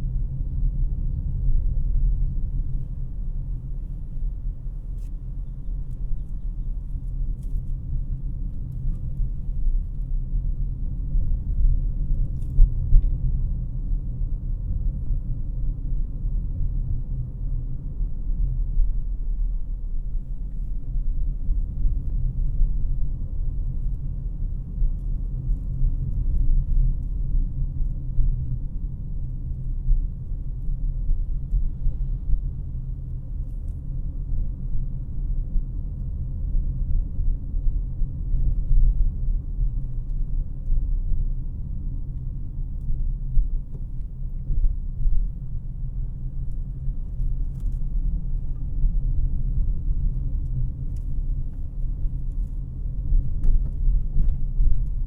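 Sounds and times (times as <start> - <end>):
car cabin road and engine rumble: 0.0 - 55.0.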